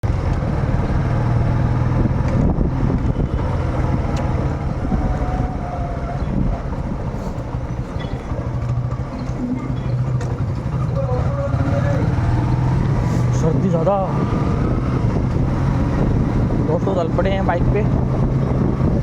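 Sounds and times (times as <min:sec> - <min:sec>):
motorcycle engine droning: 0:00.0 - 0:19.0
road noise: 0:00.0 - 0:19.0.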